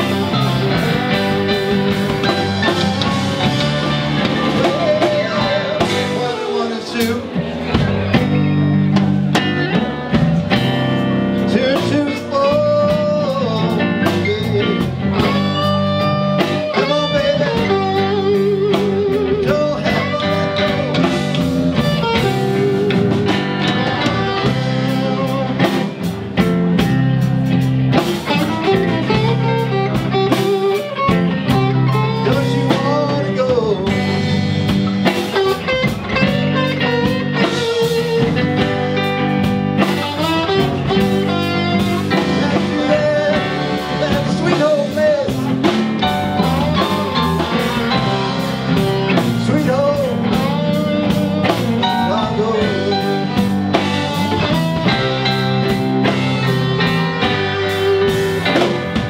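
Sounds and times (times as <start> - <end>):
lead guitar line: 0.0 - 59.0
live blues band playing: 0.0 - 59.0.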